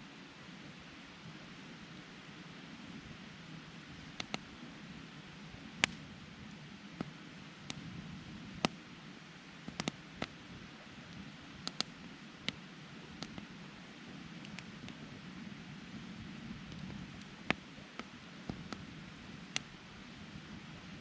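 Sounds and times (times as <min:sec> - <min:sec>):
low steady noise: 0:00.0 - 0:21.0
wood fire crackling: 0:02.9 - 0:21.0.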